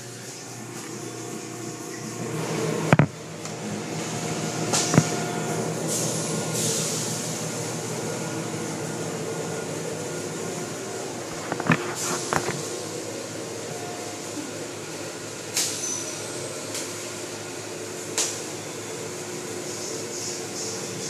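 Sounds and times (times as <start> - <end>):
car wash machinery hum: 0.0 - 21.0.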